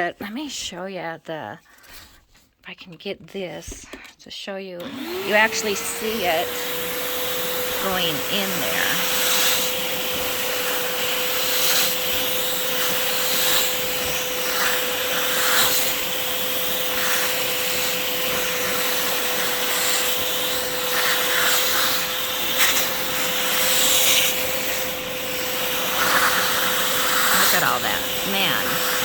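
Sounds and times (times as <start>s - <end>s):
spot cleaner suction motor whine: 4.8s - 29.0s.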